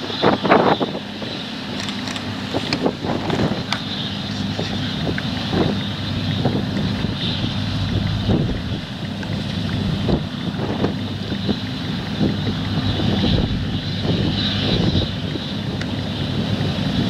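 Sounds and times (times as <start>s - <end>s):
combine harvester engine drone: 0.0s - 17.0s
high machinery whine: 0.0s - 17.0s
wind buffeting microphone: 0.0s - 17.0s.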